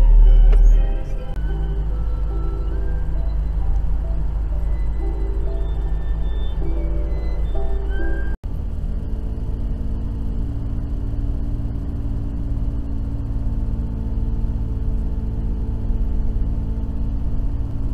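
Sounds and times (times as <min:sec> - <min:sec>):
car interior engine and road hum: 0:00.0 - 0:17.9.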